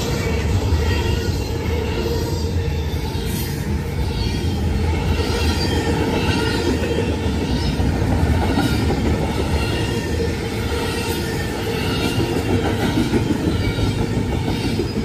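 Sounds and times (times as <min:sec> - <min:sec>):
freight cars rumbling on rails: 0:00.0 - 0:15.0.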